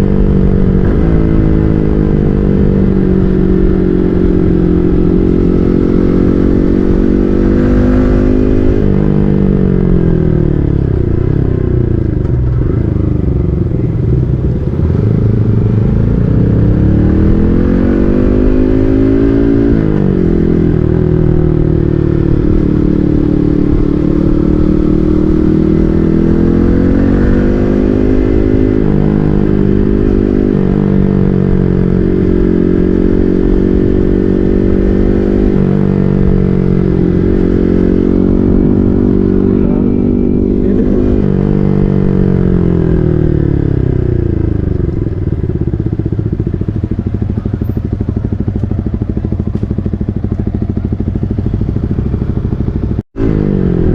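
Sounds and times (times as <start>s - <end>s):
motorcycle engine riding: 0.0s - 53.9s.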